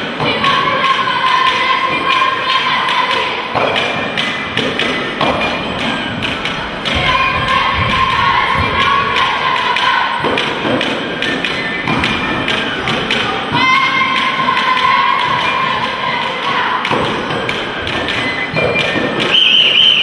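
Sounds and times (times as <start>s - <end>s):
rhythmic thuds and knocks: 0.0s - 20.0s.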